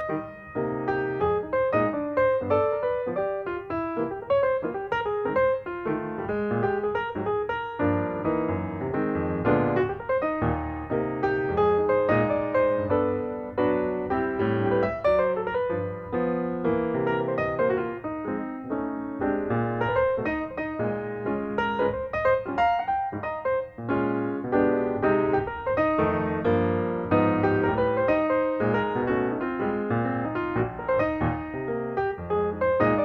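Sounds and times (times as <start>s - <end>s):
lively piano music: 0.0s - 33.0s.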